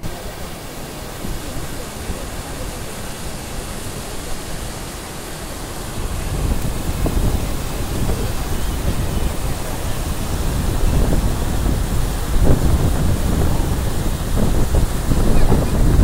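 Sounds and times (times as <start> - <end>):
floodwater pouring over a weir: 0.0 - 16.0
wind on microphone: 0.0 - 16.0.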